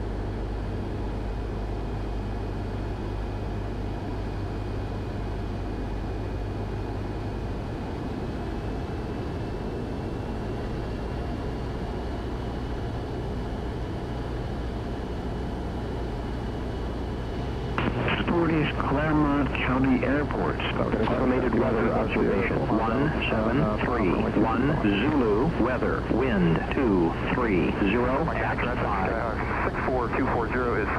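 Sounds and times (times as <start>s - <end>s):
plane engine and propeller droning: 0.0s - 30.9s
faint thin whine: 6.0s - 30.9s.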